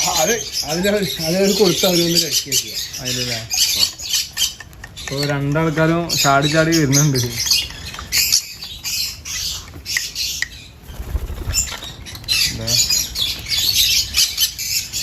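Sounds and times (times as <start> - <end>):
parrot chicks begging calls: 0.0 - 15.0.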